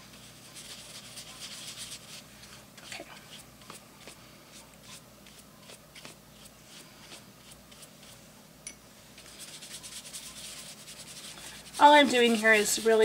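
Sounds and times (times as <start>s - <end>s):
wet paintbrush strokes on paper: 0.2s - 8.2s, 9.2s - 13.0s.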